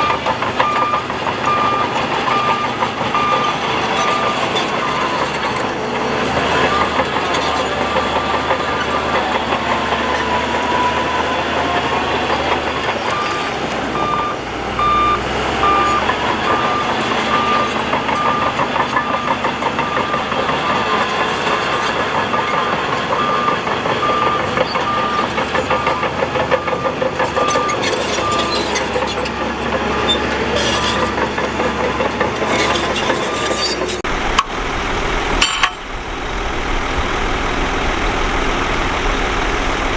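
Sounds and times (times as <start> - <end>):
reversing alarm beeping: 0.0 - 32.0
heavy diesel engine under load: 0.0 - 39.9.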